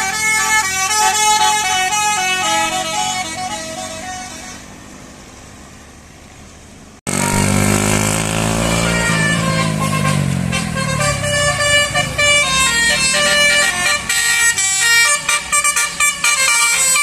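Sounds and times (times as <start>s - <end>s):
bus horn playing melody: 0.0s - 4.8s, 7.1s - 17.0s
passing vehicle engine: 0.0s - 17.0s.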